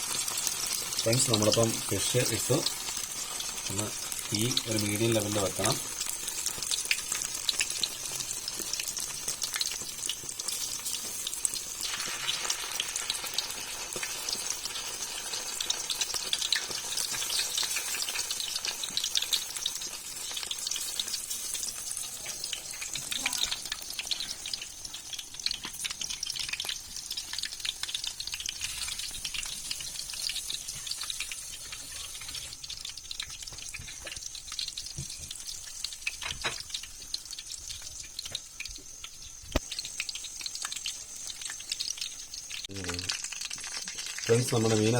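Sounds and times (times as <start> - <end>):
fish sizzling in oil: 0.0 - 44.9.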